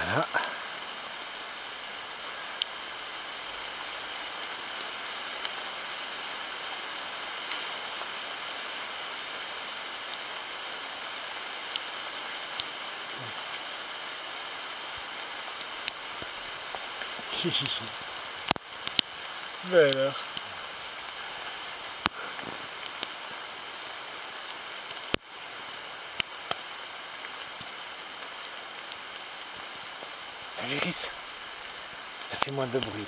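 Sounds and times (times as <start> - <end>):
rain falling through trees: 0.0 - 33.0.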